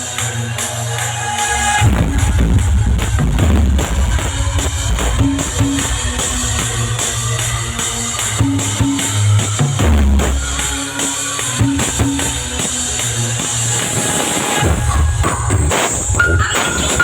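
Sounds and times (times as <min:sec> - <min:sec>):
loud bass-heavy music with drums: 0:00.0 - 0:17.0.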